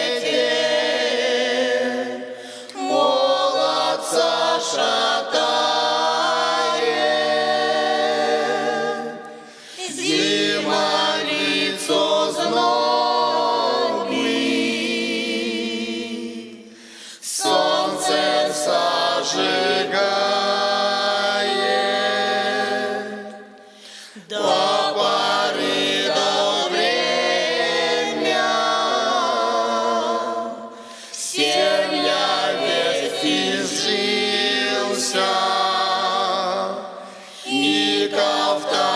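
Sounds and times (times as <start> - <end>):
vocal ensemble singing a cappella: 0.0 - 38.9.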